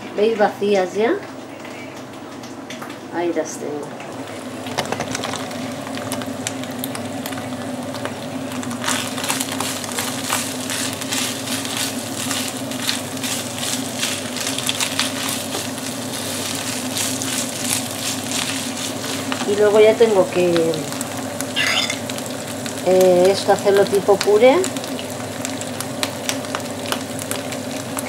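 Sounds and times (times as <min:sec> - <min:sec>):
meat sizzling in a frying pan: 0:04.2 - 0:28.0.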